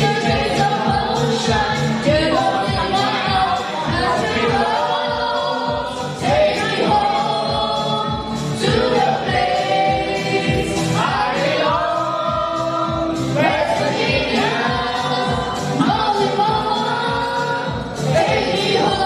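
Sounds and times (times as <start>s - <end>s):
backing music with steady beat: 0.0s - 19.0s
voices singing together: 0.0s - 19.0s.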